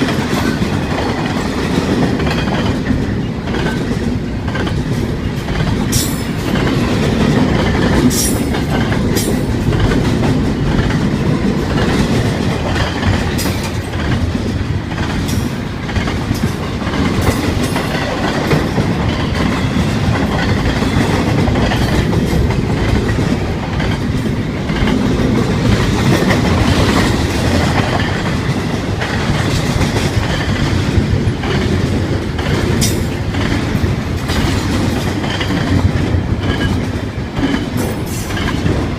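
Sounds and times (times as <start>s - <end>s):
train wheels rumbling on rail: 0.0s - 38.9s
wheels clacking on rail joints: 0.0s - 38.9s.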